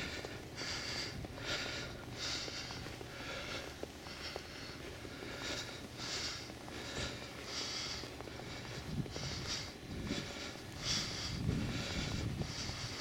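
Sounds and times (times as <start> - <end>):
low steady rumble: 0.0 - 13.0
person breathing hard: 0.0 - 13.0.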